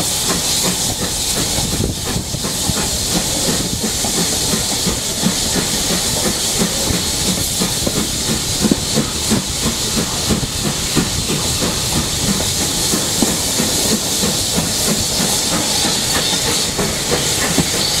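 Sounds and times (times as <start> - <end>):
steam hissing: 0.0 - 18.0
train wheels clattering on track: 0.0 - 18.0.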